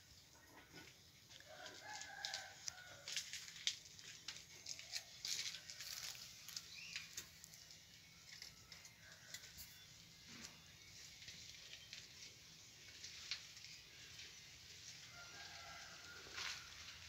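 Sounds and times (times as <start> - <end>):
rustling: 0.7 - 7.8, 10.2 - 17.0.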